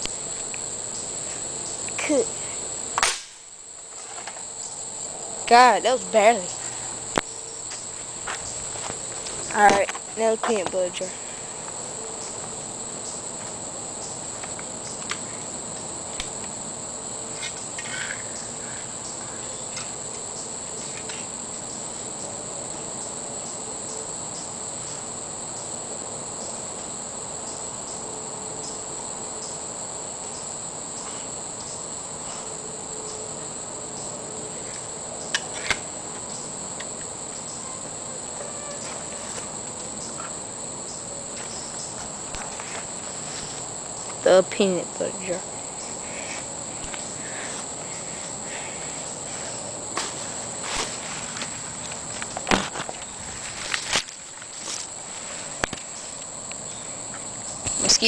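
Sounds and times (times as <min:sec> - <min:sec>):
crickets and insects chirping: 0:00.0 - 0:58.0.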